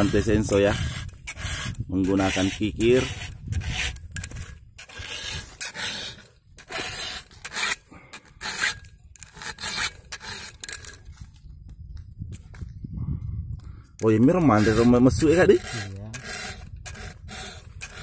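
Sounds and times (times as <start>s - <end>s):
file rasping on chainsaw chain: 0.0s - 11.0s, 14.0s - 18.0s.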